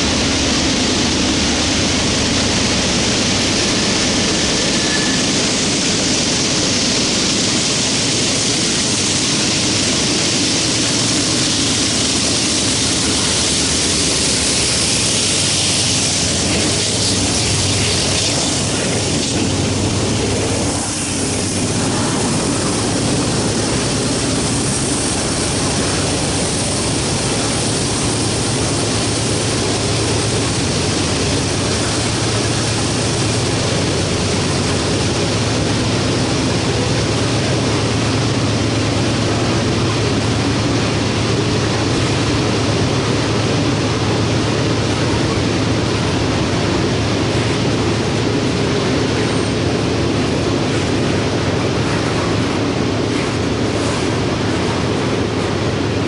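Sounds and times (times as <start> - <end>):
locomotive engine drone: 0.0 - 56.0
train rushing rumble: 0.0 - 56.0.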